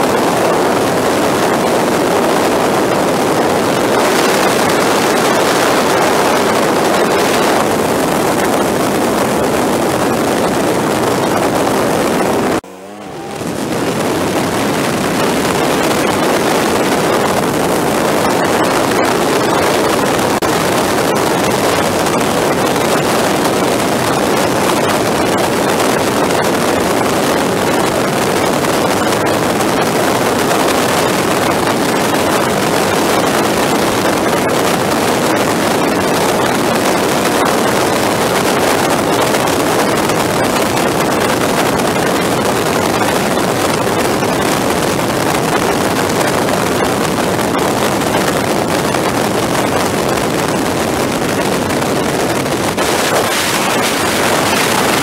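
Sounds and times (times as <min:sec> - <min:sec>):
motorcycle engine: 0:00.0 - 0:55.0
road noise: 0:00.0 - 0:55.0
wind rushing over microphone: 0:00.0 - 0:55.0.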